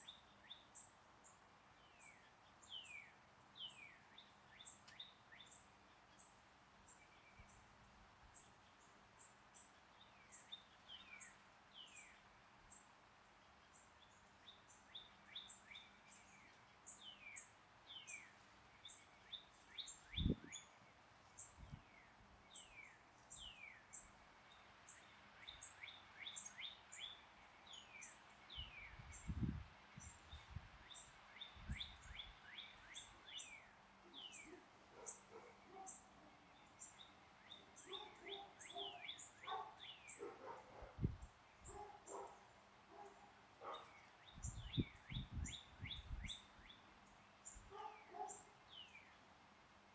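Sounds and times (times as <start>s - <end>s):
wild birds singing and calling: 8.4s - 49.4s.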